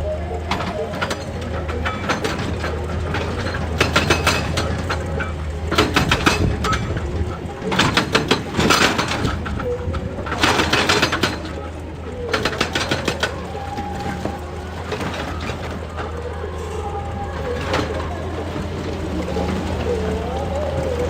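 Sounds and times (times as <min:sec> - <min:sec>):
excavator engine humming: 0:00.0 - 0:21.0
clattering and knocking: 0:00.5 - 0:21.0.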